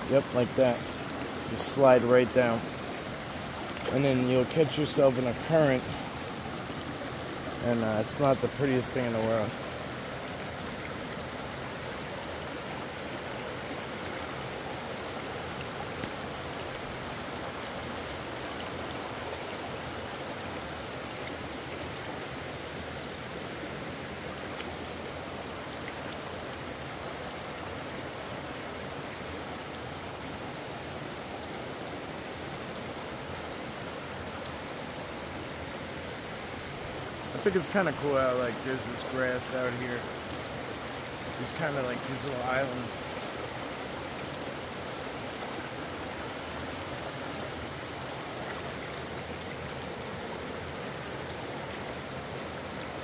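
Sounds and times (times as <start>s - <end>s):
river water rushing over stones: 0.0s - 53.0s.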